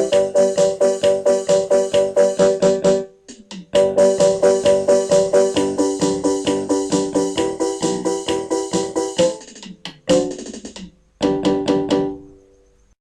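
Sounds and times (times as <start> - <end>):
repeated pitched notes: 0.0 - 12.4.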